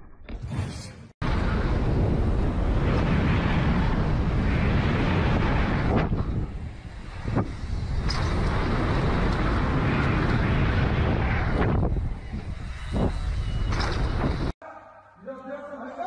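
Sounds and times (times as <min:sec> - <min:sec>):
wind buffeting microphone: 0:01.2 - 0:14.6.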